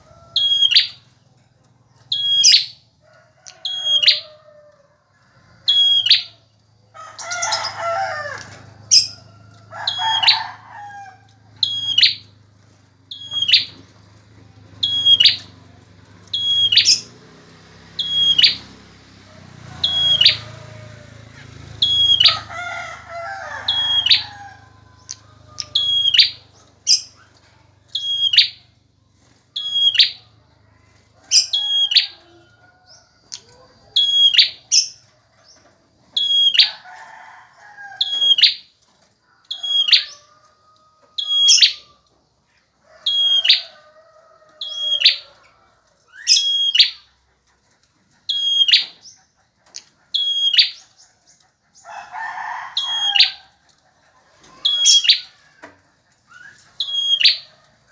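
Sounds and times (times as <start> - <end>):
fainter lower bird calls: 0.0 - 4.4, 5.6 - 12.4, 13.1 - 14.0, 14.8 - 15.6, 16.2 - 17.2, 18.0 - 18.7, 21.8 - 38.7, 39.3 - 43.9, 44.6 - 45.5, 46.1 - 47.2, 48.2 - 57.7.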